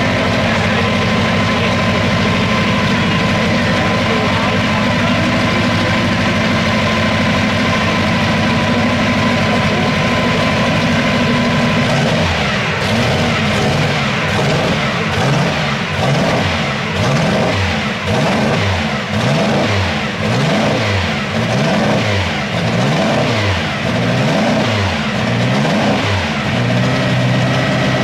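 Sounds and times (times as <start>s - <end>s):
racing car engine revving: 0.0s - 28.0s.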